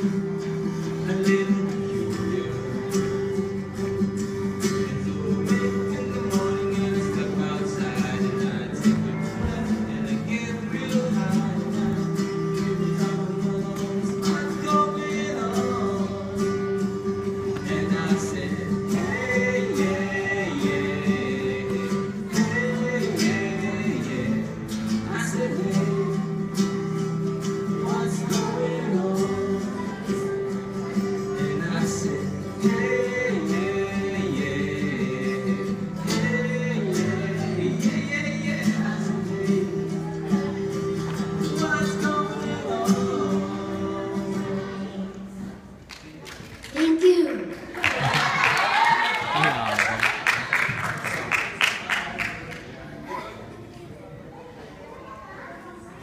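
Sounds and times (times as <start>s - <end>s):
acoustic guitars strumming: 0.0s - 46.6s.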